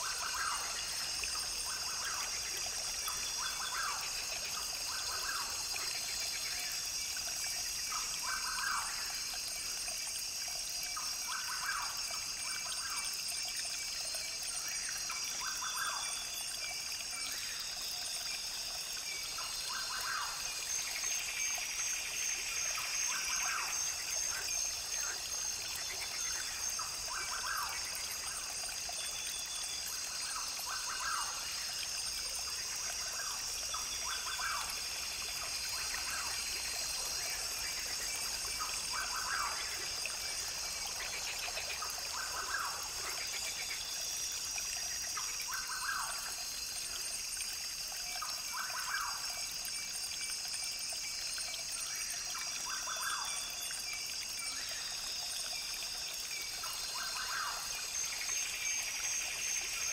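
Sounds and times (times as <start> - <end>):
water trickling over stones: 0.0 - 59.9.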